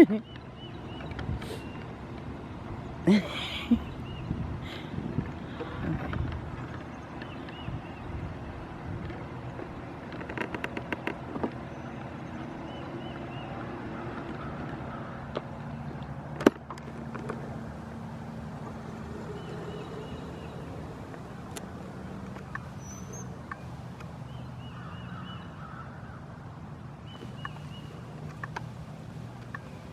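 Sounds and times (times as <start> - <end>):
power wheelchair motors humming: 0.2 - 29.9.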